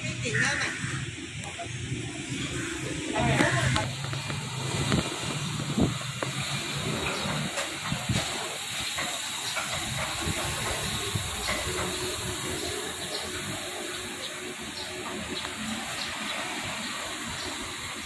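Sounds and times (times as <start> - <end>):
low rumble of traffic: 0.0 - 18.0
steady street hiss: 0.0 - 18.0.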